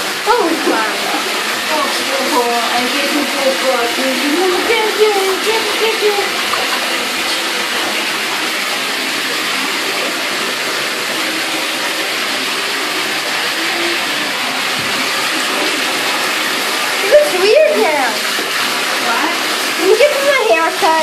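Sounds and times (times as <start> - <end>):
faucet water pouring into tub: 0.0 - 21.0.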